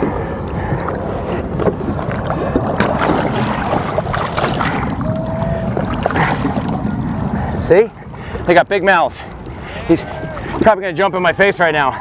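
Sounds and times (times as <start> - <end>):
water splashing at hull: 0.0 - 12.0
wind buffeting microphone: 0.0 - 12.0.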